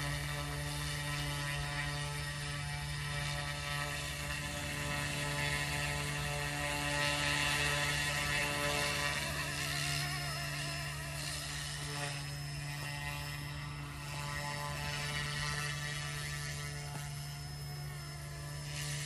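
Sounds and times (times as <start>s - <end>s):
toy helicopter buzzing whine: 0.0s - 19.0s.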